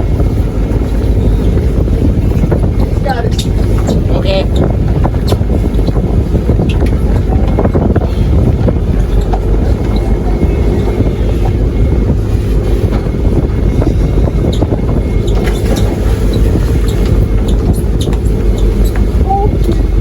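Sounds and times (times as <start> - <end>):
boat engine rumble: 0.0 - 20.0
wind on microphone: 0.0 - 20.0.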